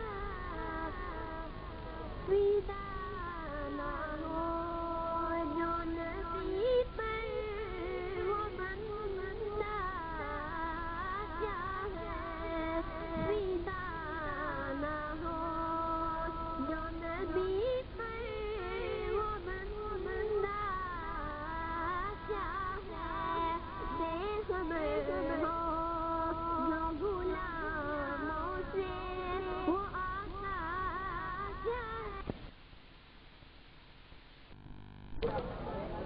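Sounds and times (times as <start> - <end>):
boy singing into microphone: 0.0 - 32.4.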